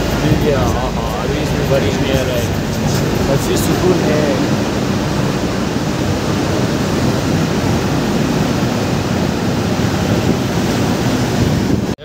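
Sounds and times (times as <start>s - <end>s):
large truck running: 0.0s - 12.0s
traffic in a road tunnel: 0.0s - 12.0s
tyres on a wet road: 0.0s - 12.0s.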